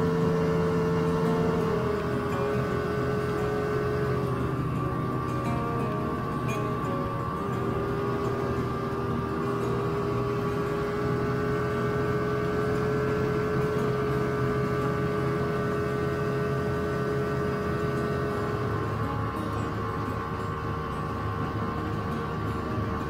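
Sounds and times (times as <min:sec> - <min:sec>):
snowmobile engine and track: 0:00.0 - 0:23.0
steady whine: 0:00.0 - 0:23.0.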